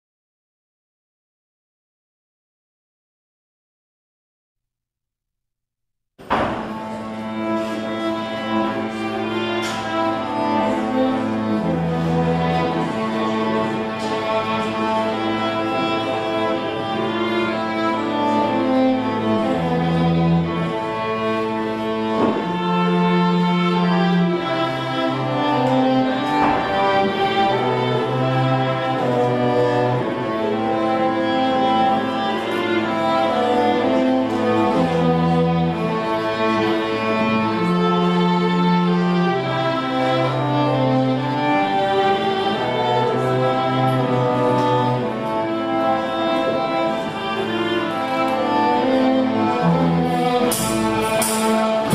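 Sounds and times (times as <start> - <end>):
violin and cello music: 6.2 - 51.9.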